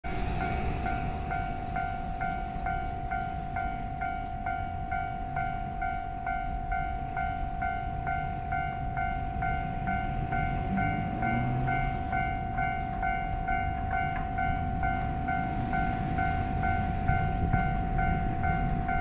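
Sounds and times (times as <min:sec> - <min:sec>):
level crossing bell ringing: 0:00.4 - 0:19.0.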